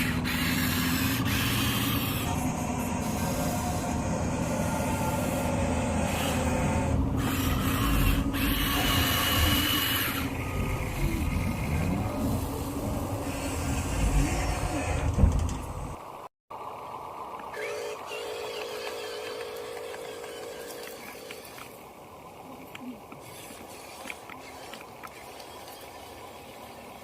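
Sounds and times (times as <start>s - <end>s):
small electric motors running: 0.0s - 15.2s, 17.5s - 21.8s, 23.1s - 27.0s.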